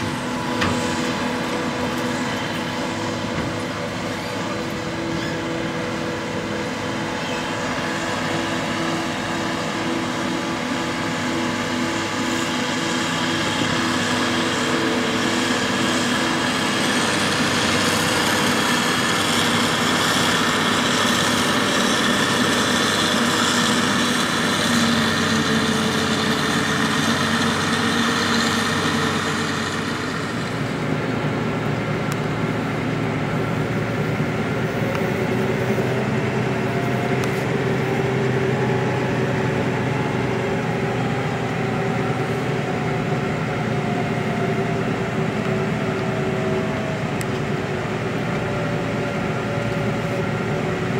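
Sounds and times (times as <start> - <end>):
forage harvester machine drone: 0.0 - 50.9.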